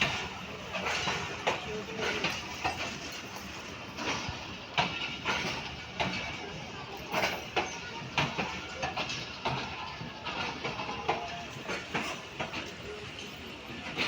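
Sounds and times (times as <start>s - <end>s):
train wheels knocking over rail joints: 0.0s - 14.0s.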